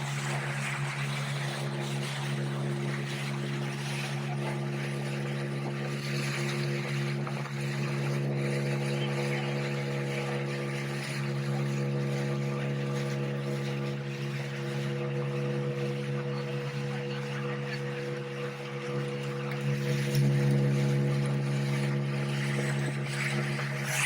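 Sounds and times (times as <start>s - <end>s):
outboard engine droning: 0.0s - 24.0s
water rushing along hull: 0.0s - 24.0s.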